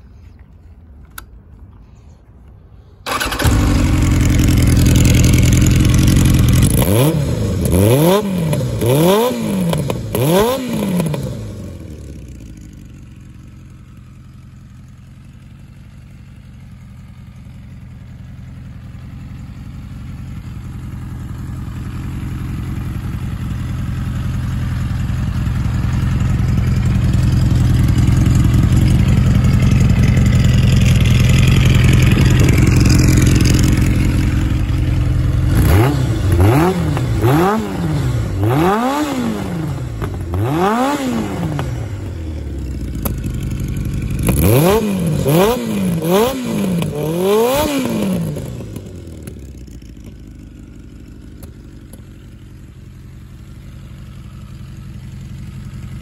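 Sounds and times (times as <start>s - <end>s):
motorcycle engine revving and idling: 3.1s - 56.0s.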